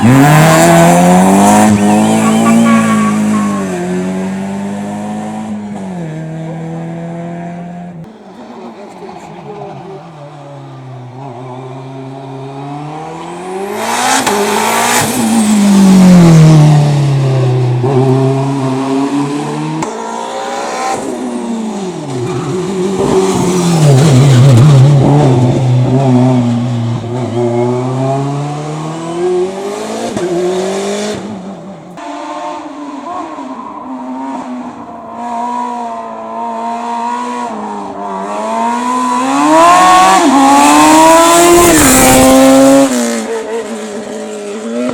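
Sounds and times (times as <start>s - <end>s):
race car engines revving: 0.0s - 44.9s.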